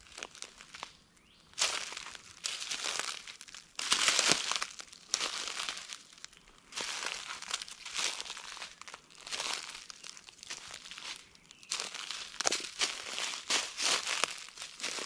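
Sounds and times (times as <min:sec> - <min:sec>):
footsteps crunching dry leaves: 0:00.0 - 0:01.0, 0:01.6 - 0:15.0.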